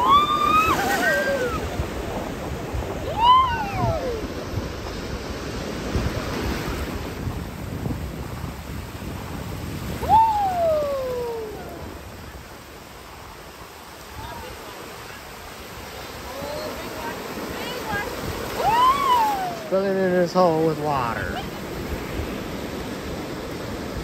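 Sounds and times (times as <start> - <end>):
surf washing on beach: 0.0 - 24.0
wind on microphone: 0.0 - 24.0.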